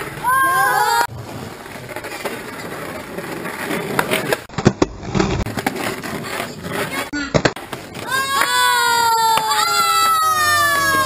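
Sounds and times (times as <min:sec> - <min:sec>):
skateboard wheels rolling on concrete: 0:00.0 - 0:11.0
skateboard clacking on ground: 0:01.2 - 0:11.0.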